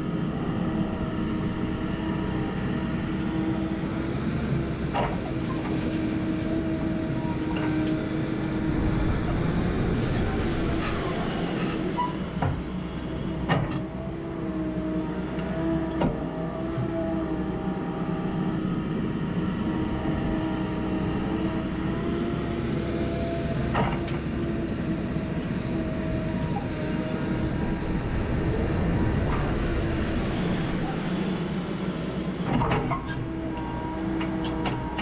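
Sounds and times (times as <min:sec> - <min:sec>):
heavy equipment engine running: 0:00.0 - 0:35.0.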